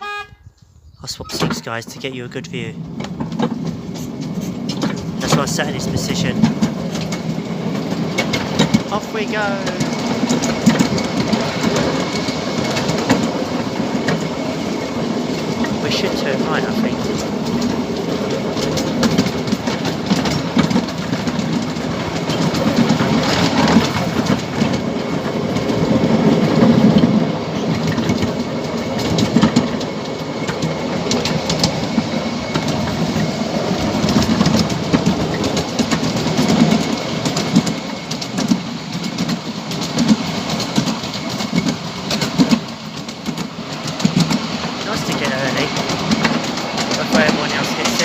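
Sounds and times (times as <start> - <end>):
train wheels clattering: 1.4 - 48.0
clicks over rail joints: 3.0 - 48.0.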